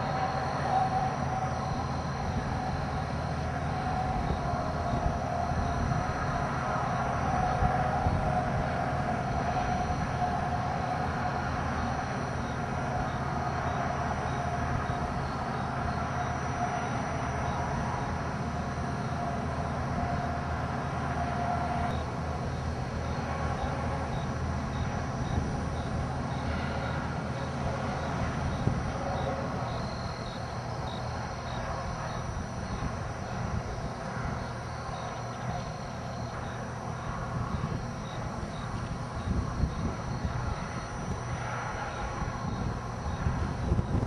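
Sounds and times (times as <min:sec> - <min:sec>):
faint wavering whine: 0:00.0 - 0:44.0
mechanical rumble: 0:00.0 - 0:44.0.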